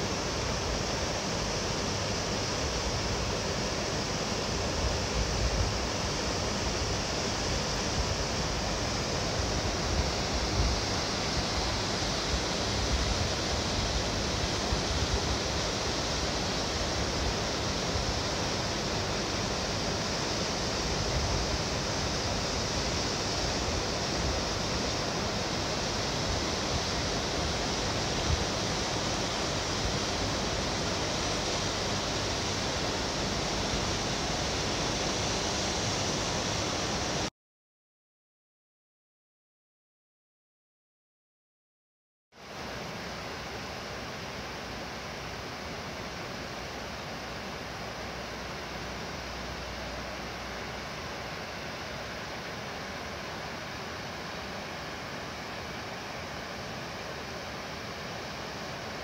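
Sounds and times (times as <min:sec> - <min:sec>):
water rushing from dam outlets: 0:00.0 - 0:37.3, 0:42.4 - 0:59.0.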